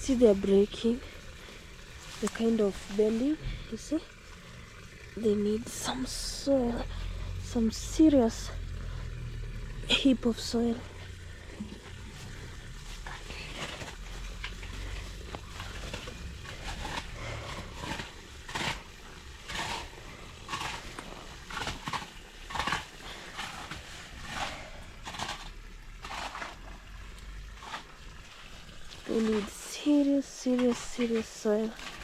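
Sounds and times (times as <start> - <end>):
soil being scraped: 0.1 - 4.0, 5.1 - 32.0.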